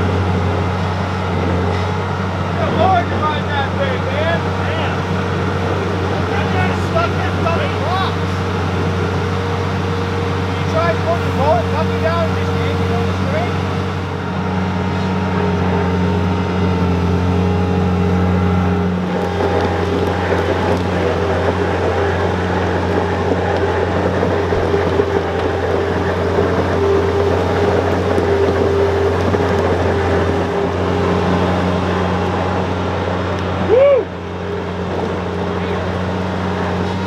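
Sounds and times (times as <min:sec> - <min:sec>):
loader engine running under load: 0:00.0 - 0:37.0.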